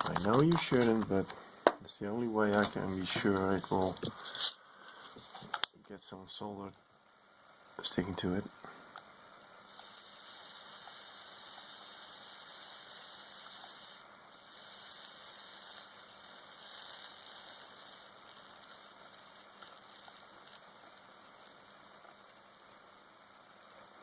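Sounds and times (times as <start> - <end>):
soldering flux sizzling: 0.0 - 24.0.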